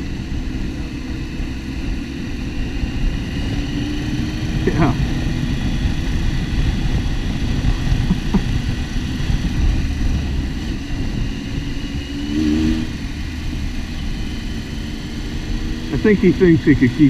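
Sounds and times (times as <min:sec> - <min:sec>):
motorcycle engine at speed: 0:00.0 - 0:17.0
wind rumbling on microphone: 0:00.0 - 0:17.0.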